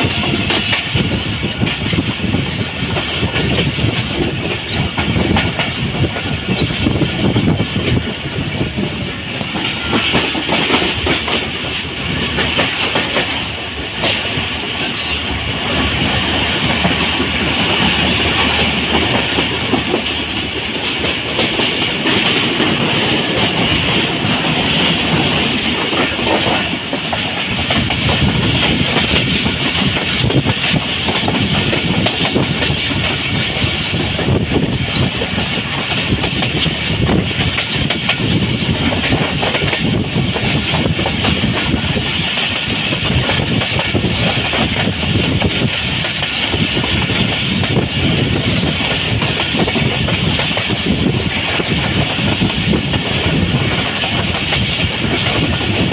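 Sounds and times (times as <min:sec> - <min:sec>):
train wheels clattering over rails: 0:00.0 - 0:55.9.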